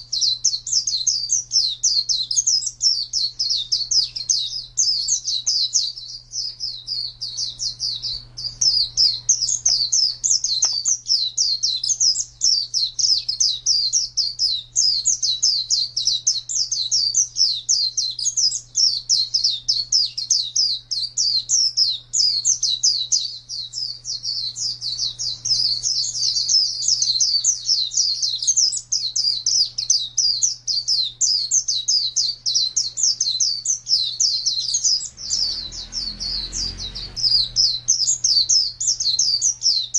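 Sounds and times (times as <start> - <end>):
bird chirping rapidly: 0.0 - 39.9
faint low hum: 0.0 - 39.9.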